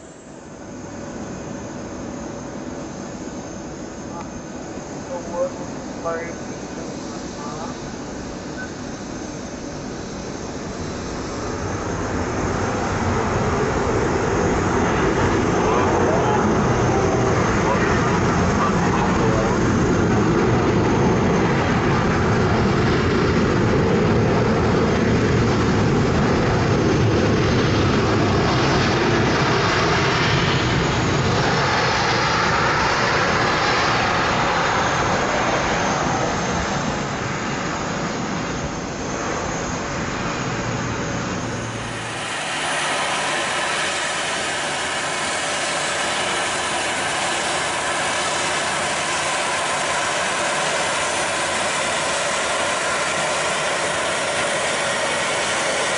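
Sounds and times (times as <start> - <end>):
jet engine whine: 0.0 - 55.9
jet engines roaring: 0.0 - 55.9.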